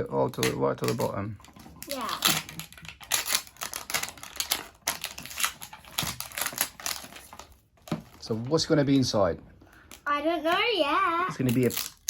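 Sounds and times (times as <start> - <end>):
plastic packaging crackling and tearing: 0.2 - 9.2, 9.8 - 12.0.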